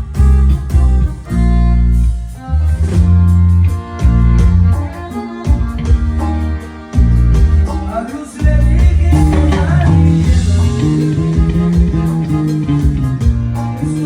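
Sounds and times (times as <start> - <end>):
band playing instrumental: 0.0 - 14.0
plucked guitar: 0.0 - 14.0
walking bass line: 0.0 - 14.0.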